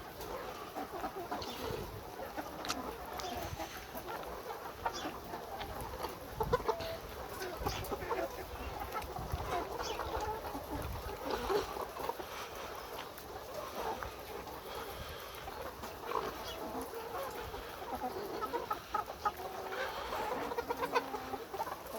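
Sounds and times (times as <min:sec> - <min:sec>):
hens clucking: 0:00.0 - 0:21.9.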